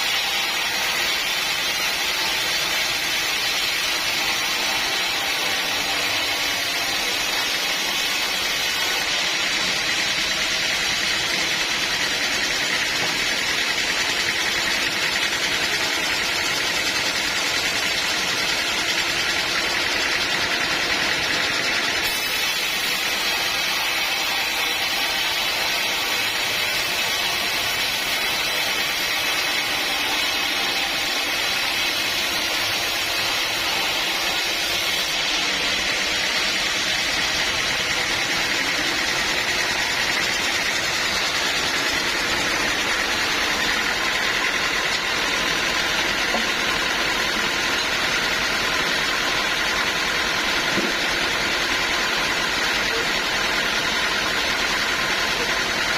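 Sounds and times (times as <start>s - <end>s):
sawmill blade cutting log: 0.0s - 55.9s.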